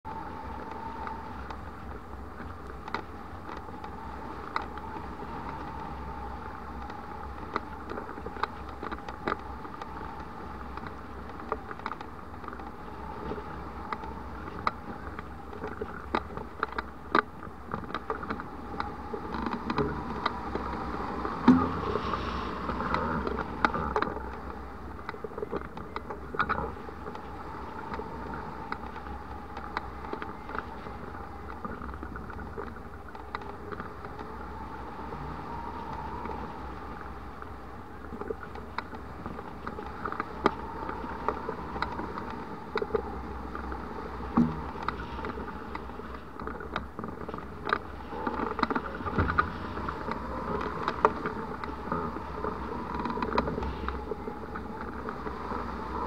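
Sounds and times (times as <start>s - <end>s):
wind noise on microphone: 0.0s - 56.0s.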